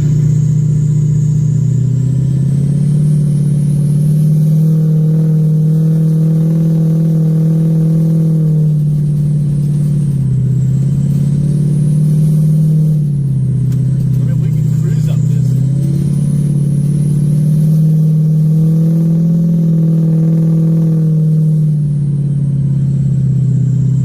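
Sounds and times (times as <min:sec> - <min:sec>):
diesel truck engine pulling uphill: 0:00.0 - 0:24.0.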